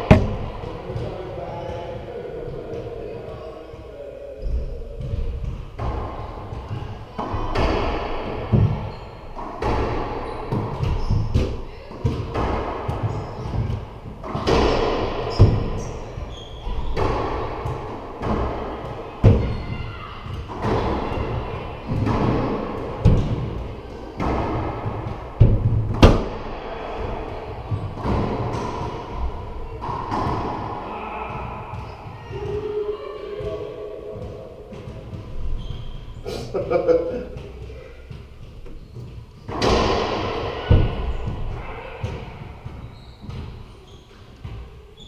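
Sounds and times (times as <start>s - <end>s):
racquetball hits echoing: 0.0s - 2.1s, 3.7s - 44.8s.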